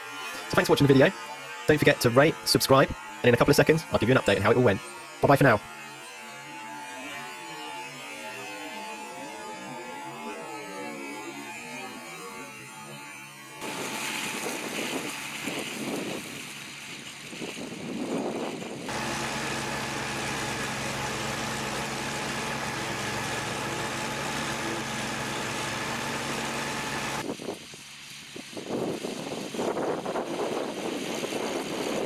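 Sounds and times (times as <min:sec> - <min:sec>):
ride-on mower engine droning: 0:00.0 - 0:28.6.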